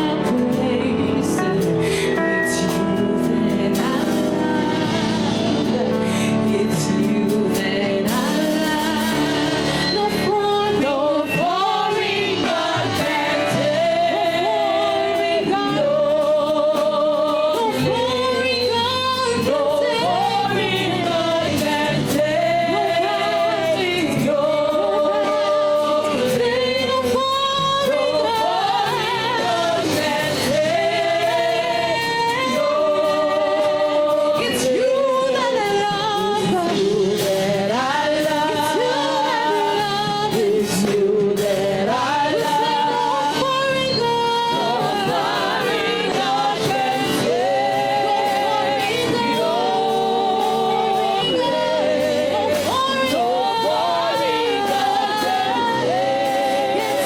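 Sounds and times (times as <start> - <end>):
gospel singing: 0.0 - 57.0
instrumental accompaniment: 0.0 - 57.0.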